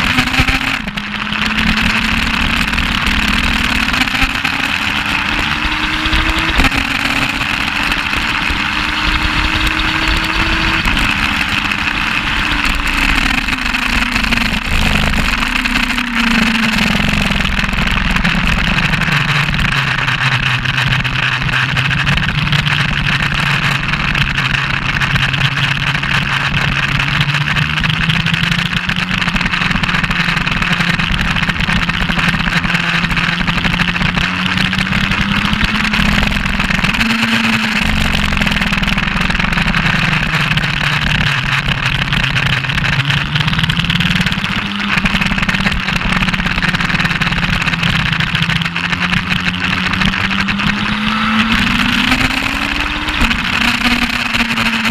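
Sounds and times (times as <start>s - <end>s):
motorcycle engine revving: 0.0s - 54.9s
wind rushing over camera: 0.0s - 54.9s.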